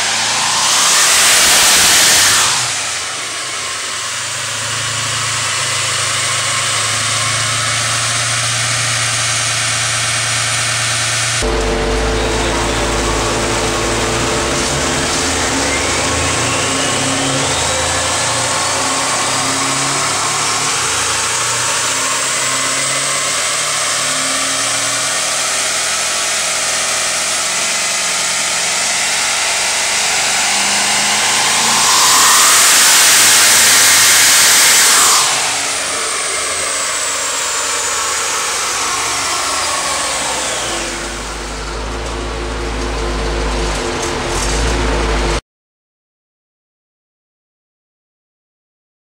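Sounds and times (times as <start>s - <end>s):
car engine on dyno whining: 0.0s - 45.4s
loud rush of noise: 0.0s - 45.4s.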